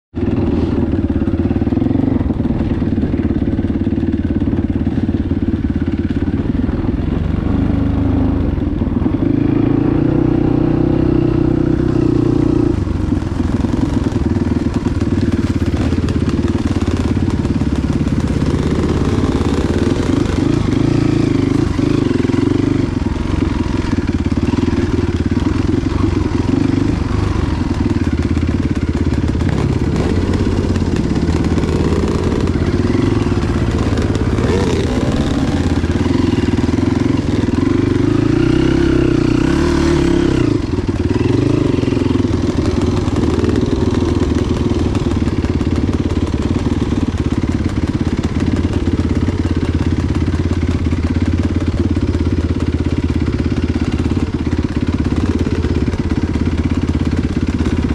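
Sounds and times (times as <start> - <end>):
motorcycle engine revving: 0.1 - 57.9.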